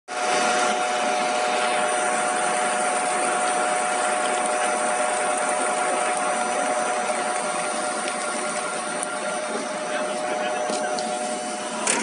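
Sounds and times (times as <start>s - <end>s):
machine whining: 0.1s - 12.0s.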